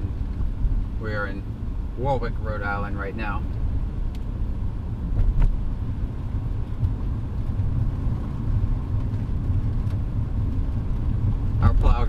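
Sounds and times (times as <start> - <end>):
car engine and tyres on wet road: 0.0 - 12.0.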